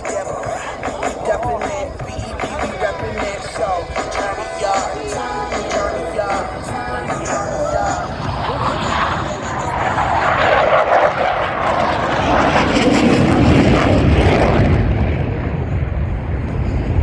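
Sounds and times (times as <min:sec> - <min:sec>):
jets passing with loud roar: 0:00.0 - 0:17.0.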